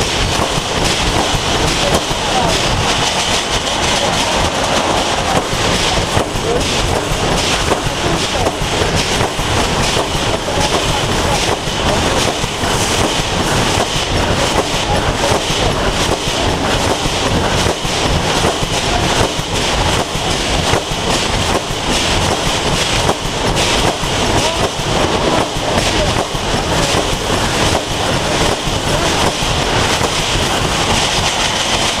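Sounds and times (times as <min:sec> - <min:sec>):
welding machine clattering: 0:00.0 - 0:32.0.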